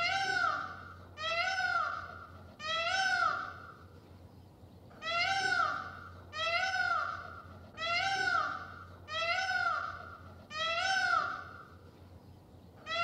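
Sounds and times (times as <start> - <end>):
peacock calling: 0.0 - 3.8, 5.0 - 11.8.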